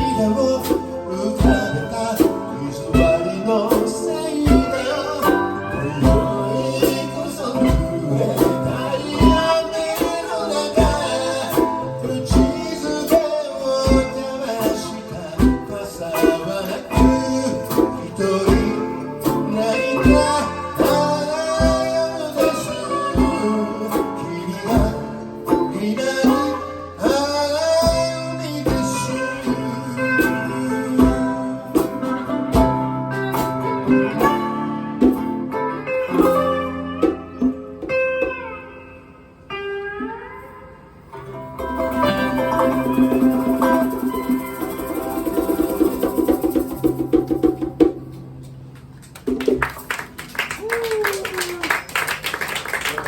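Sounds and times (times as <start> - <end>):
bent sliding guitar notes: 0.0 - 48.7
live blues-rock band: 0.0 - 52.7.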